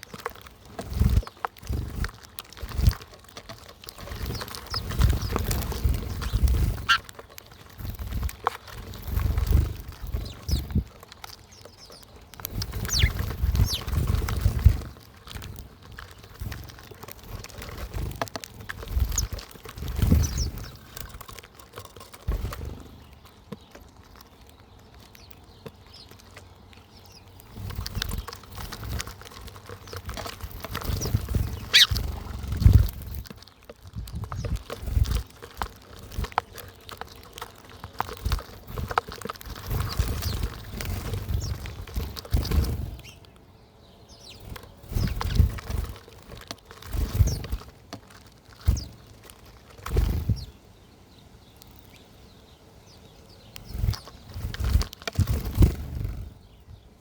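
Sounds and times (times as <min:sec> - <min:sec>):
wing flutters: 0:00.0 - 0:24.2, 0:25.6 - 0:43.4, 0:44.1 - 0:50.6, 0:53.4 - 0:56.8
birds chirping: 0:00.0 - 0:57.0.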